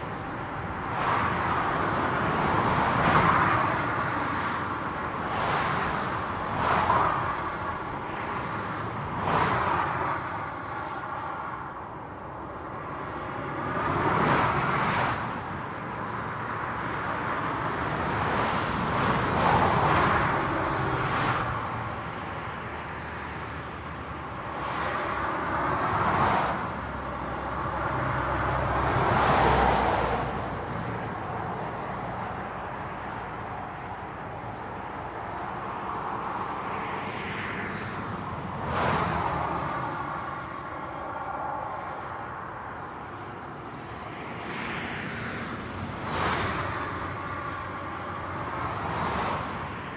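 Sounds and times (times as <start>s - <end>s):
highway traffic road noise: 0.0s - 49.9s
vehicles passing by: 0.0s - 49.9s.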